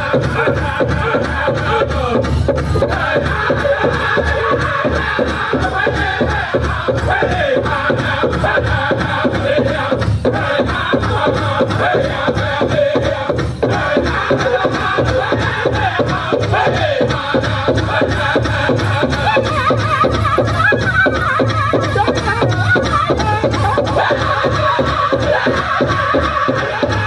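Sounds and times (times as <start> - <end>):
fast beat on big drum: 0.0 - 27.0
group singing in high voices: 0.0 - 27.0.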